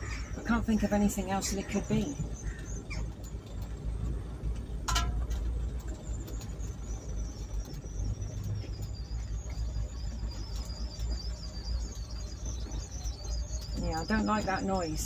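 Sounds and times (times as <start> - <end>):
high warbling chirp: 0.0 - 3.4, 5.8 - 15.0
engine and road rumble: 0.0 - 15.0.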